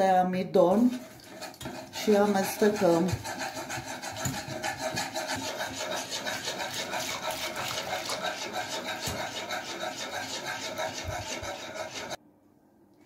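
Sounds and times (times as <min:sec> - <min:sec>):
whisk scraping a saucepan: 0:00.0 - 0:12.2.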